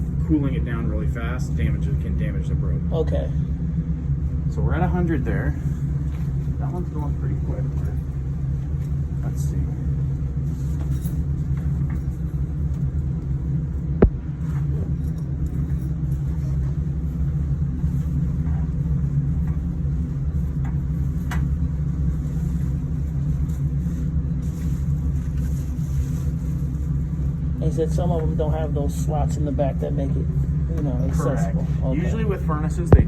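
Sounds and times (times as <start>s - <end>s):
machinery rumbling: 0.0s - 33.0s.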